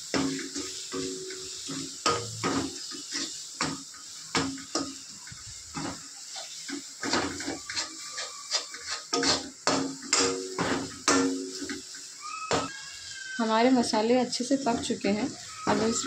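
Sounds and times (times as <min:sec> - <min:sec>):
metal spatula scraping a pan: 0:00.0 - 0:13.0, 0:14.5 - 0:16.0
oil sizzling: 0:00.0 - 0:16.0.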